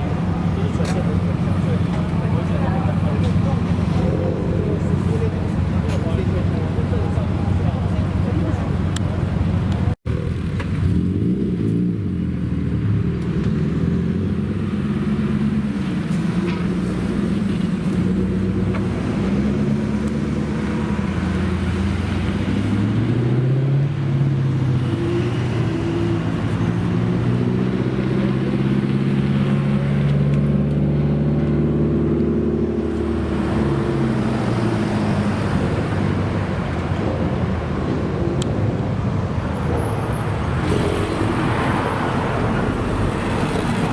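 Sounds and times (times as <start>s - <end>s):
car engines accelerating: 0.0s - 43.9s.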